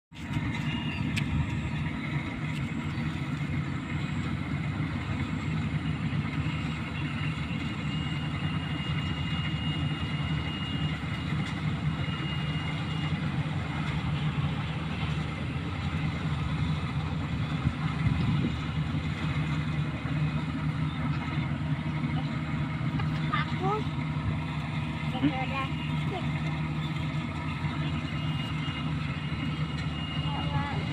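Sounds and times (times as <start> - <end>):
diesel engine running: 0.1 - 30.9.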